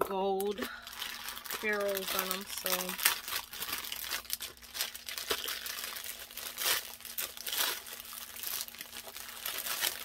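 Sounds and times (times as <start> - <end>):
packaging crinkling: 0.4 - 10.0.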